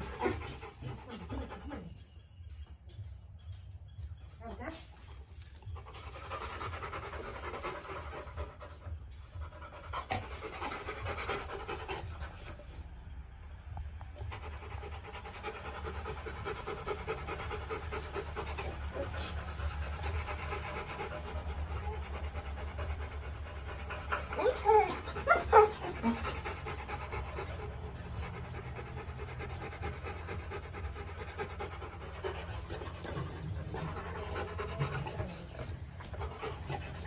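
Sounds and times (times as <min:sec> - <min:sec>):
dog panting: 0:00.0 - 0:37.0.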